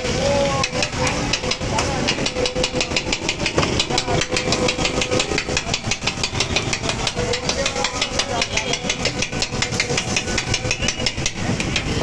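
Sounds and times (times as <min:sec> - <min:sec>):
metal spatula chopping on griddle: 0:00.6 - 0:12.0.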